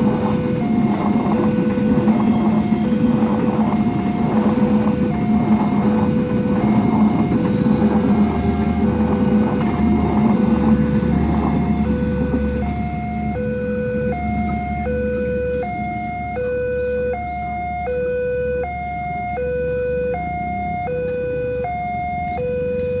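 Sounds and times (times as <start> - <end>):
level crossing two-tone siren: 0.0 - 23.0
passing train rumble: 0.0 - 23.0.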